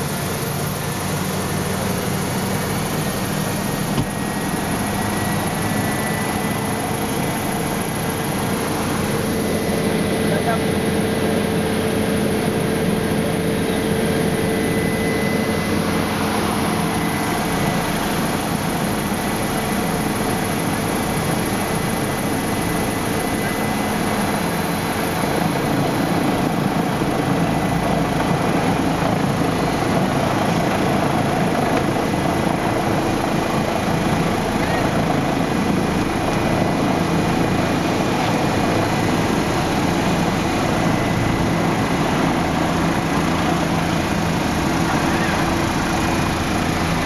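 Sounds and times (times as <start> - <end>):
helicopter engine and rotor: 0.0 - 47.0
steady whine: 0.0 - 47.0.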